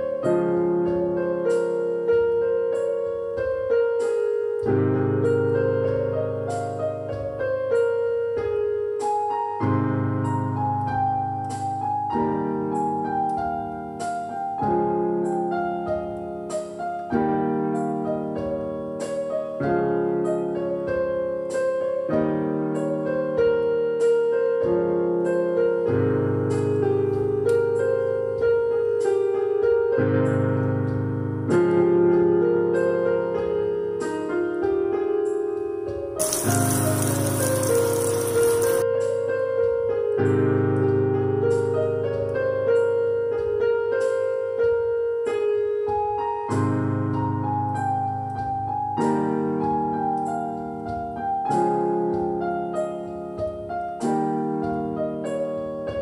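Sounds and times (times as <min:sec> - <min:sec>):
solo piano music: 0:00.0 - 0:56.0.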